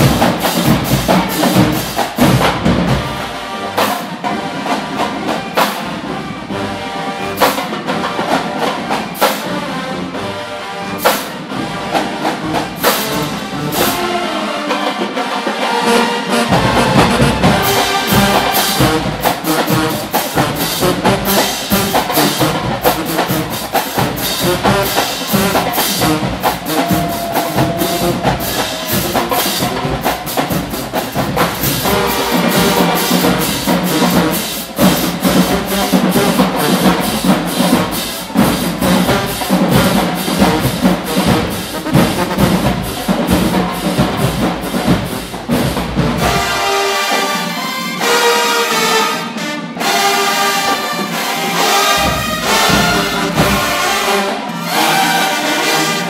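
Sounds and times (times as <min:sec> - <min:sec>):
brass horns: 0:00.0 - 0:56.0
snare drums: 0:00.0 - 0:56.0.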